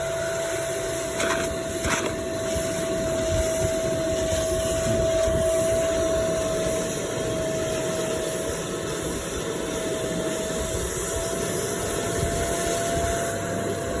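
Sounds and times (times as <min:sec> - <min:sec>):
extraction vacuum running: 0:00.0 - 0:13.7.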